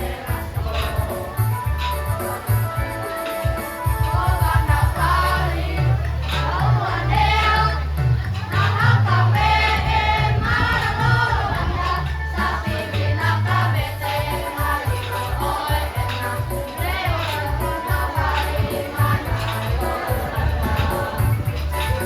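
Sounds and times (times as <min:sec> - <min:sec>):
children's choir singing: 0:00.0 - 0:22.0
heavy bass line accompaniment: 0:00.0 - 0:22.0.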